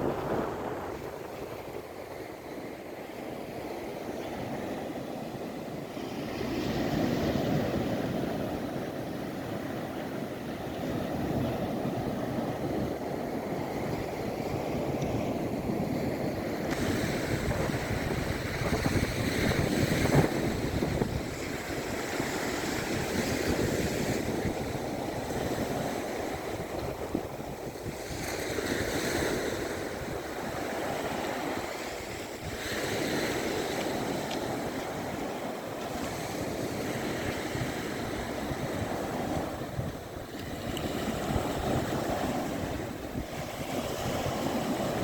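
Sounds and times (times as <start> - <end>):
small waves breaking on shore: 0.0 - 45.0
wind rumbling on microphone: 0.0 - 45.0.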